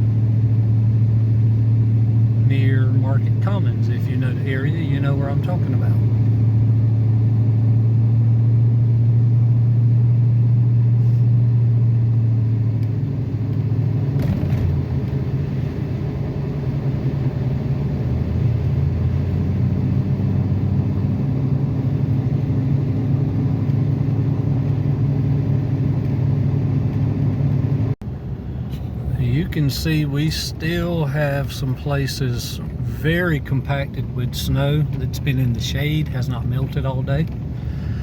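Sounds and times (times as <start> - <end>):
truck engine and road drone: 0.0 - 38.0.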